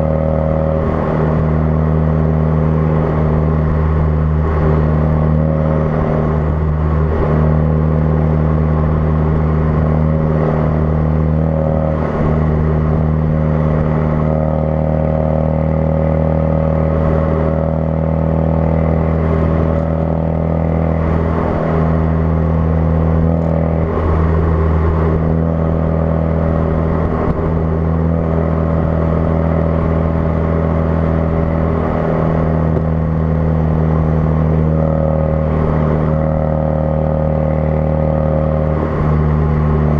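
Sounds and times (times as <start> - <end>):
car engine droning steadily: 0.0 - 39.9.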